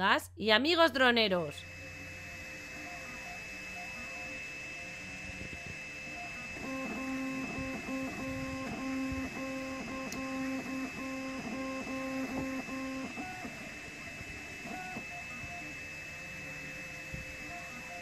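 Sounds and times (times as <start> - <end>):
steady high whine: 0.6 - 18.0
stepper motor tones: 0.9 - 18.0.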